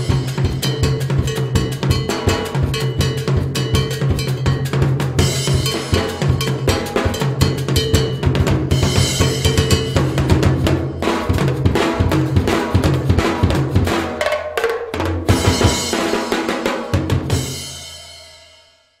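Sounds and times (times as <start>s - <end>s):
percussion groove on drums: 0.0s - 18.7s.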